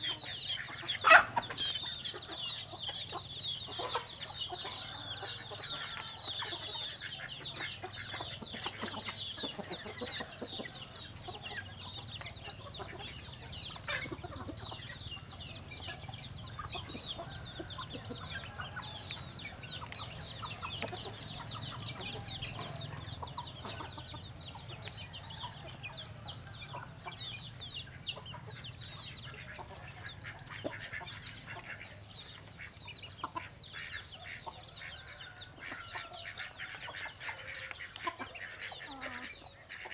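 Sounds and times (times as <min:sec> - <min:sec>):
chickens peeping and clucking: 0:00.0 - 0:39.9.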